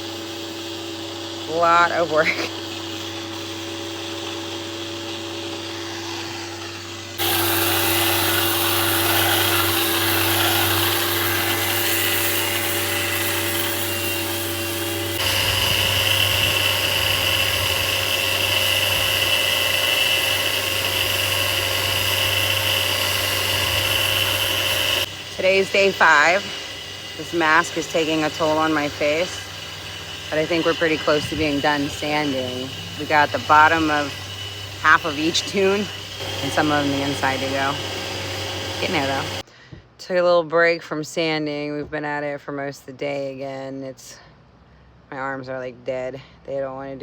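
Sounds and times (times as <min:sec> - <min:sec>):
power sander whining: 0:00.0 - 0:39.5.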